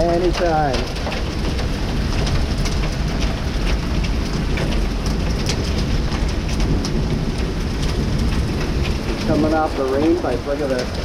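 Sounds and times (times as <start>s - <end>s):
hailstones ticking on hard surfaces: 0.0s - 11.0s
heavy rain downpour: 0.0s - 11.0s.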